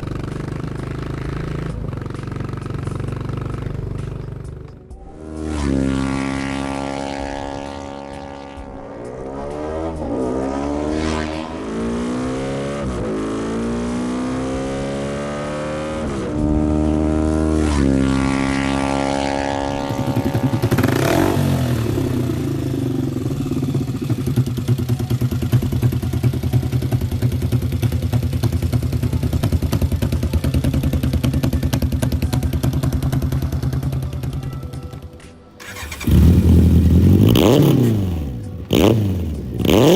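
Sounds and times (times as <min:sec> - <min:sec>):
engine running with fast pulse: 0:00.0 - 0:39.9
motorcycle engine revving: 0:00.0 - 0:39.9.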